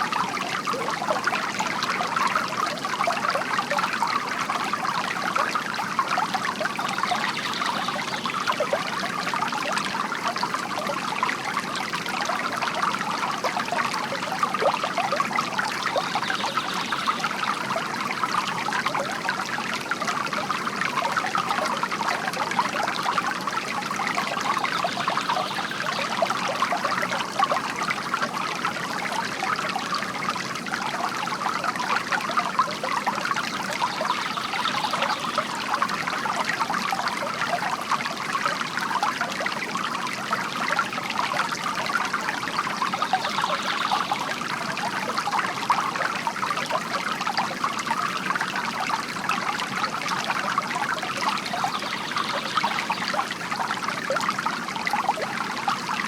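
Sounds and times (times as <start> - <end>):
fountain water trickling into basin: 0.0 - 56.0.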